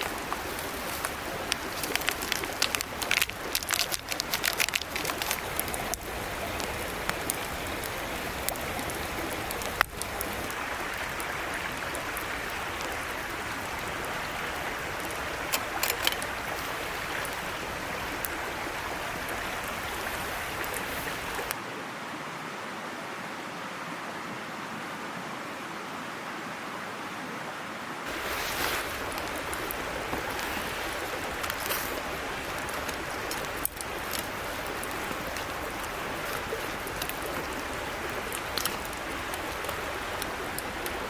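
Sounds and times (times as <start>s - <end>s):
stream babbling: 0.0s - 41.0s.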